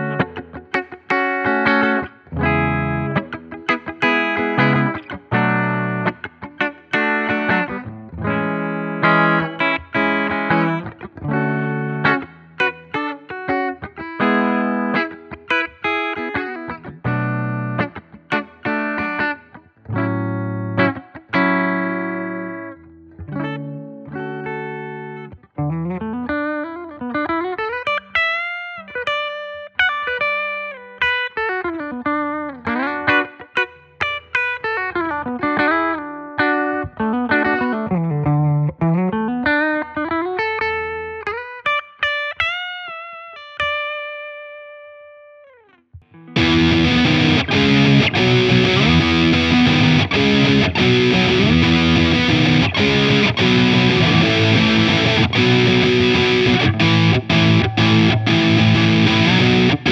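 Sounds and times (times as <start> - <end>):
clean electric guitar chords: 0.0 - 59.9
electric guitar melody: 0.0 - 59.9.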